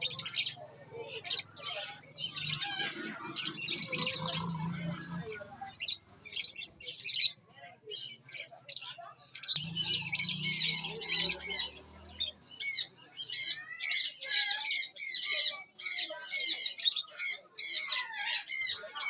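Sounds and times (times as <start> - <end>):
small birds chirping and squawking: 0.0 - 19.0.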